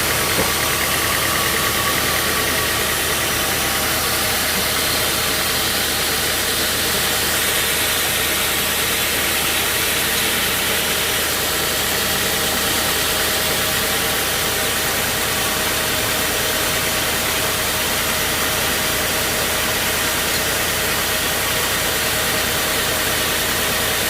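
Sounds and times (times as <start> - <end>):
sawmill machinery engine drone: 0.0 - 24.0.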